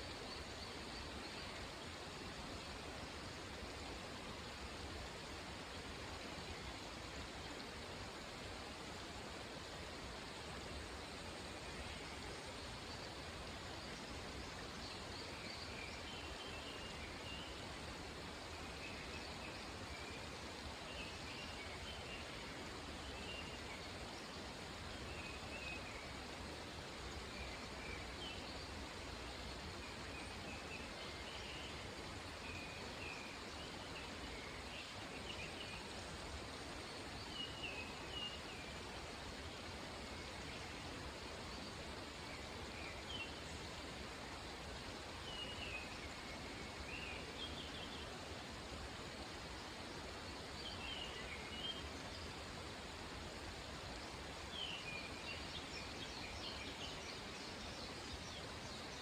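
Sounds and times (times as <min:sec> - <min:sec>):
mountain stream rushing: 0:00.1 - 0:59.0.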